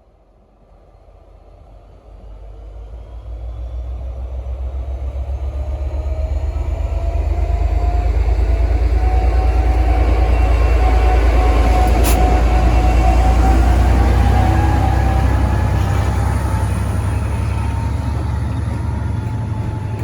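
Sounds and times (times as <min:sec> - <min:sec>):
locomotive engine throbbing rumble: 0:00.8 - 0:20.0.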